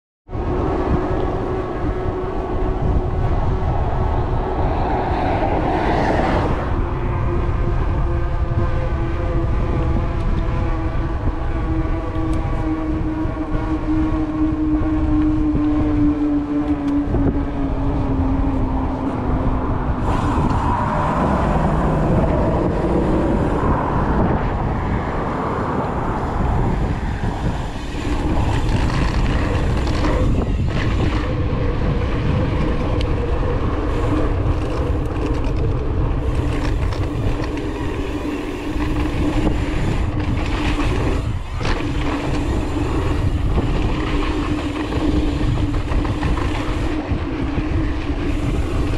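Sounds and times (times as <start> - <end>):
bike tyre noise: 0.3 - 48.9
wind rush on microphone: 0.3 - 48.9.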